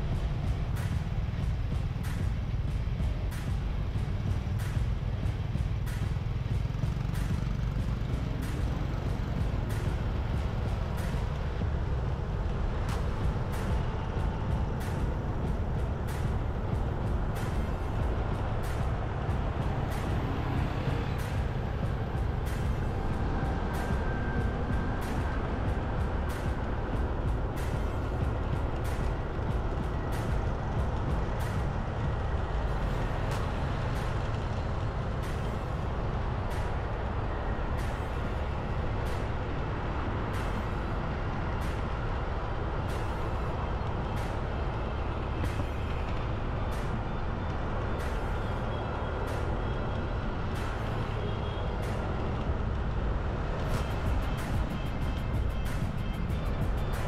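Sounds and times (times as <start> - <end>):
road traffic noise: 0.0 - 57.0
vehicle engine rumble: 0.0 - 57.0.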